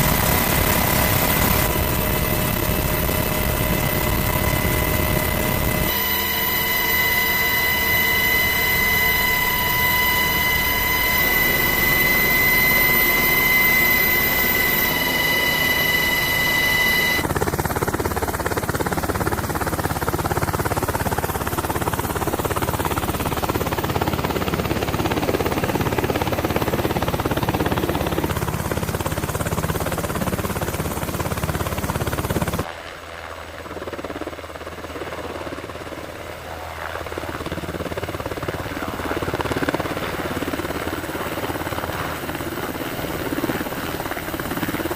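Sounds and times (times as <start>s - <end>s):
helicopter running: 0.0s - 44.9s.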